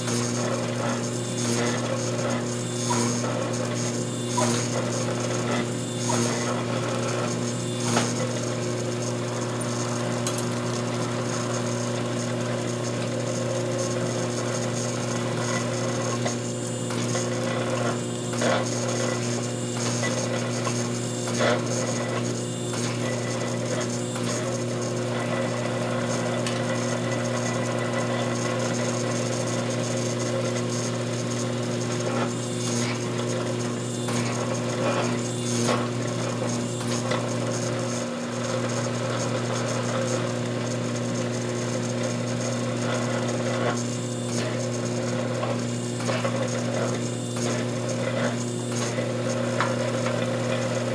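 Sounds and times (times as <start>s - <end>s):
hydraulic pump and motor humming: 0.0s - 50.9s.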